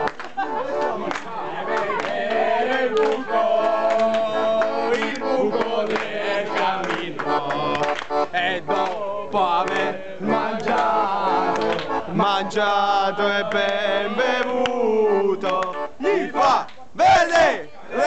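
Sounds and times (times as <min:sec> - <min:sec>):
accordion playing folk tune: 0:00.0 - 0:17.2
voices singing along: 0:00.0 - 0:18.0.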